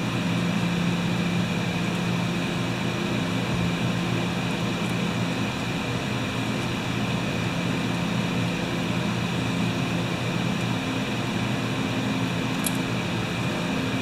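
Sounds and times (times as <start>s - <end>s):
fan humming: 0.0s - 14.0s.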